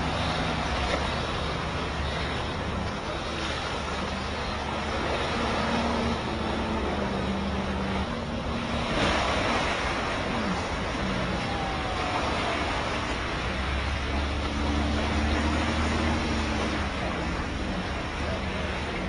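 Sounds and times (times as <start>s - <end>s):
car engine running: 0.0s - 19.0s
low hum: 0.0s - 19.0s
water rushing and splashing: 0.0s - 19.0s.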